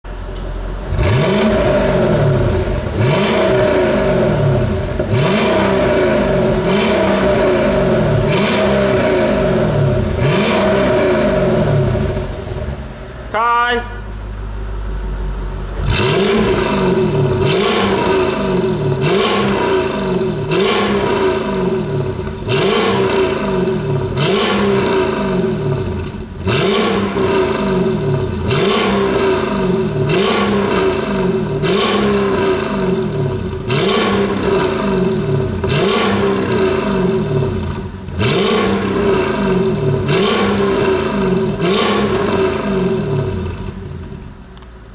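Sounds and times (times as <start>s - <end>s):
exhaust cracking: 0.1s - 13.3s, 14.0s - 44.9s
car engine revving: 0.7s - 13.2s, 14.0s - 44.6s.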